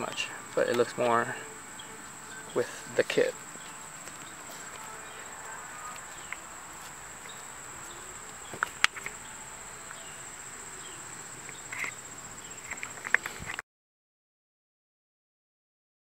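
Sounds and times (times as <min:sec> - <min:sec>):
insects trilling: 0:00.0 - 0:13.6.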